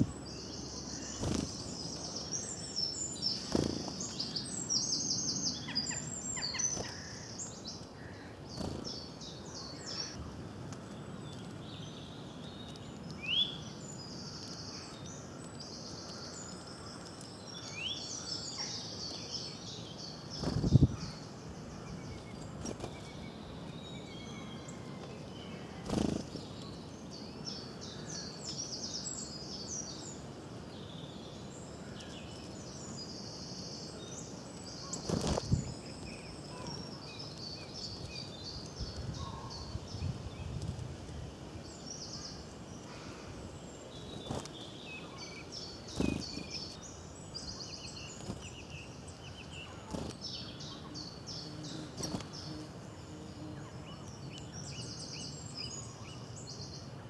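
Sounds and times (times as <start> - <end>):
songbirds singing and chirping: 0.0 - 57.0.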